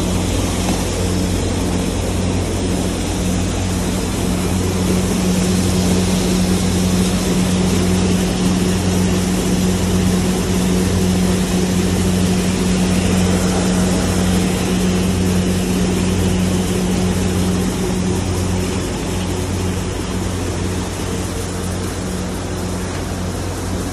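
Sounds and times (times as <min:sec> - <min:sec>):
electric motor hum: 0:00.0 - 0:23.9
grain rushing through machine: 0:00.0 - 0:23.9.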